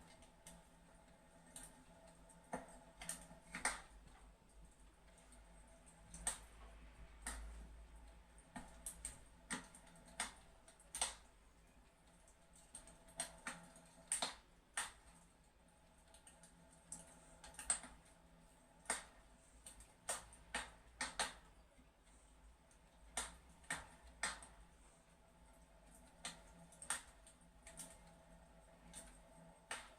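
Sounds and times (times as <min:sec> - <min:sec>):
fireplace crackling and popping: 0:00.0 - 0:29.9.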